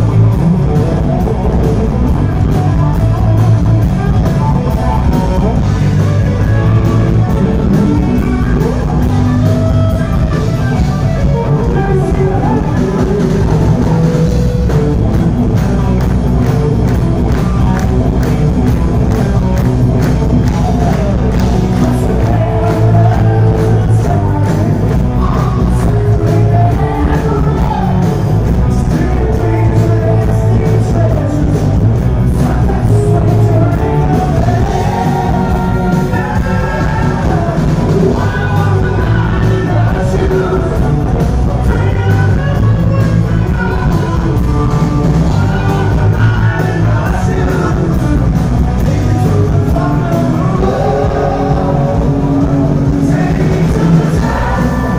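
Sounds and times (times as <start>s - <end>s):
bass guitar: 0.0s - 54.9s
drums: 0.0s - 54.9s
electric guitars: 0.0s - 54.9s
man singing lead vocal: 0.0s - 54.9s.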